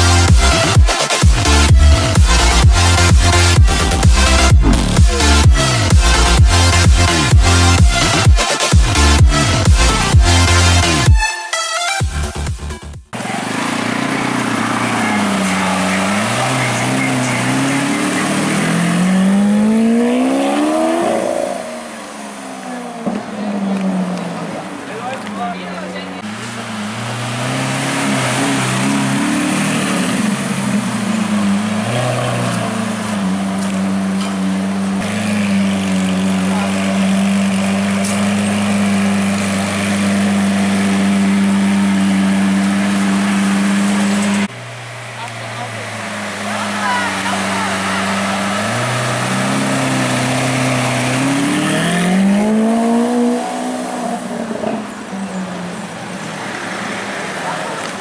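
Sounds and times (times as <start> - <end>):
car engine running at low speed: 0.0 - 11.1, 13.1 - 58.0.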